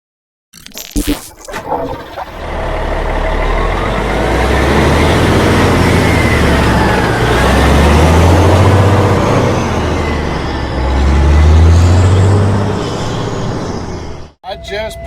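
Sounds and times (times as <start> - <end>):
truck diesel engine droning: 1.6 - 15.0.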